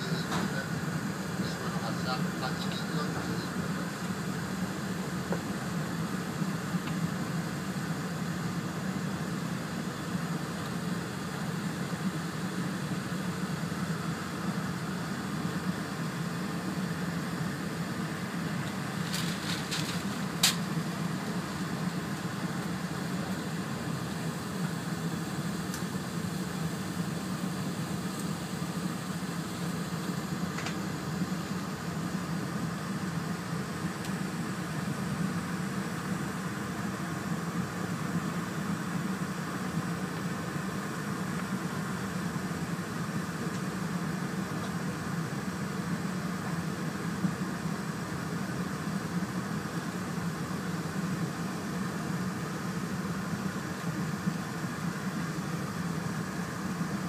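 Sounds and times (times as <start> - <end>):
train cabin hum and hiss: 0.0 - 57.0.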